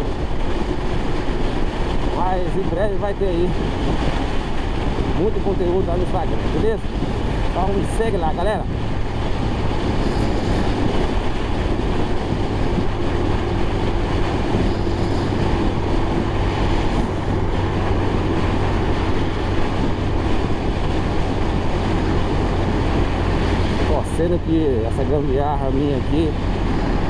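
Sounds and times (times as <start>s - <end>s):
low motorcycle engine hum: 0.0s - 27.0s
wind rushing over microphone: 0.0s - 27.0s.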